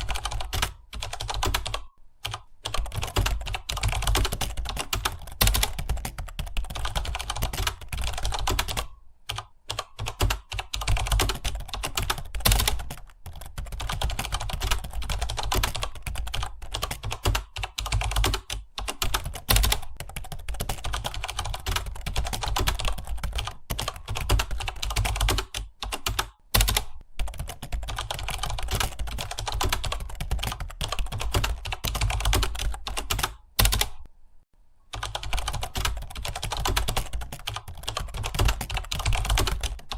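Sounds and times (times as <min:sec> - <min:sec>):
computer keyboard typing: 0:00.0 - 0:34.1, 0:34.9 - 0:39.9.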